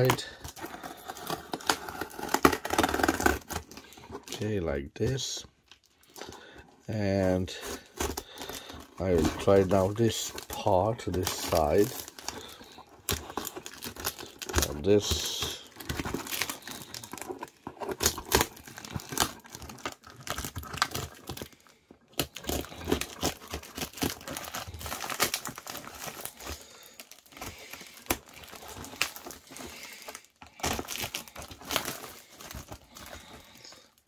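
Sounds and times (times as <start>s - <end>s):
knife cutting plastic wrapping: 0.0s - 4.5s, 7.0s - 34.0s
plastic crinkling and tearing: 0.0s - 34.0s.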